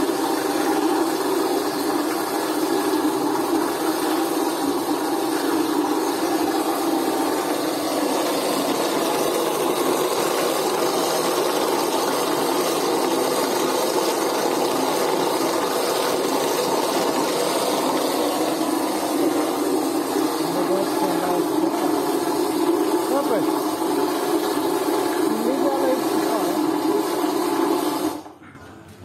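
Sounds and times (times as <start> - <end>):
electric mixer motor running: 0.0 - 28.3.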